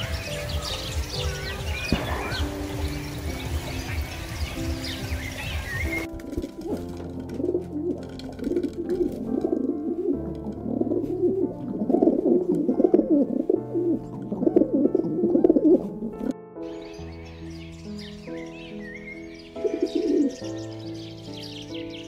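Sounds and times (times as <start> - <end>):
pigeons cooing: 0.0 - 16.3, 19.0 - 20.6
background music: 0.0 - 22.0.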